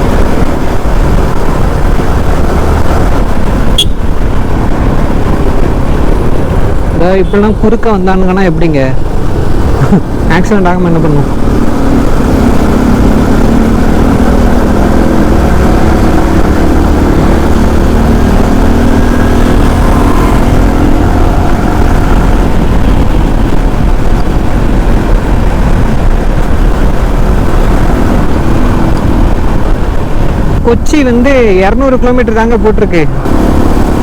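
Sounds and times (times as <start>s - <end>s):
motorcycle engine running: 0.0s - 32.4s
wind rush on microphone: 0.0s - 34.0s.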